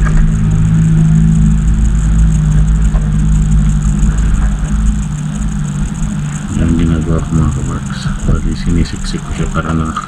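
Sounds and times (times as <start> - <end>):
low motor drone: 0.0 - 10.0.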